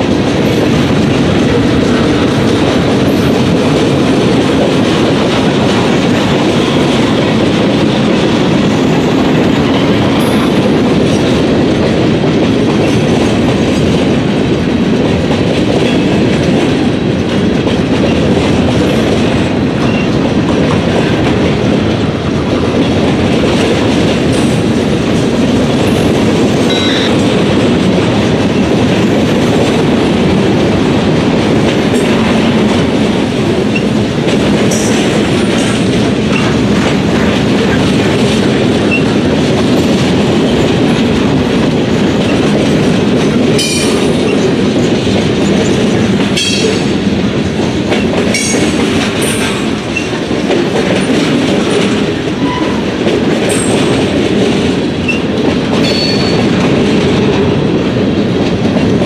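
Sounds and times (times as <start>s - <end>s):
freight train rolling past: 0.0s - 59.0s
wheels clattering over rail joints: 0.0s - 59.0s.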